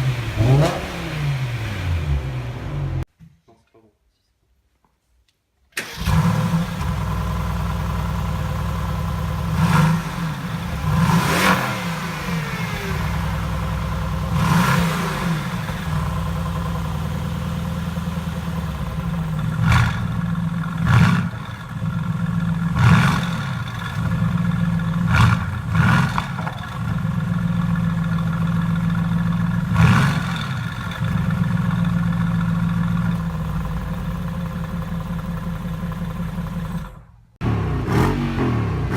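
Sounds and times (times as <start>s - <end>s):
car engine starting and revving: 0.0s - 3.1s, 5.8s - 38.9s.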